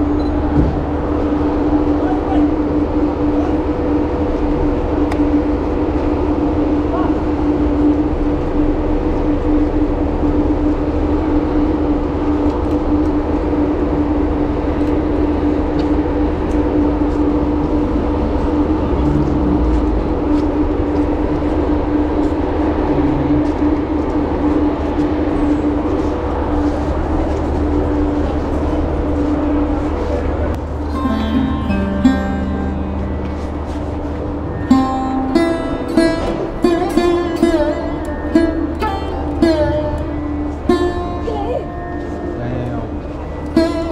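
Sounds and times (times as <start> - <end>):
ferry engines droning: 0.0 - 43.9.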